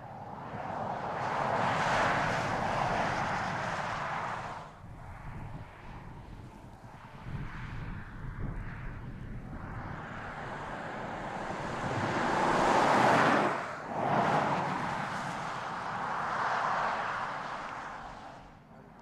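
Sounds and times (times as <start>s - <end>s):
car passing by at speed: 0.4s - 18.7s.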